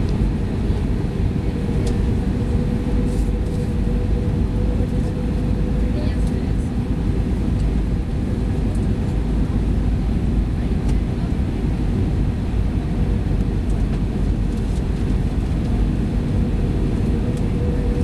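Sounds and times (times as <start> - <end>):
airliner cabin engine roar: 0.0 - 18.0.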